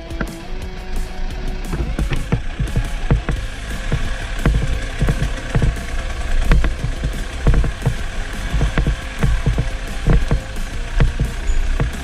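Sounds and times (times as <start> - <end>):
motorcycle engine rumbling: 0.0 - 12.0
knocks and thumps from trail: 1.6 - 12.0.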